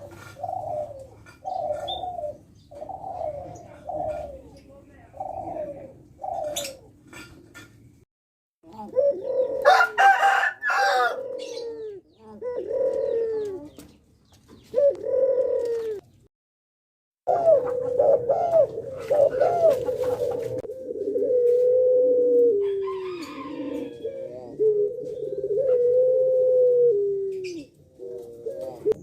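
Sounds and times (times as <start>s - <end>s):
doves cooing: 0.0s - 7.2s, 8.7s - 16.2s, 17.3s - 29.0s.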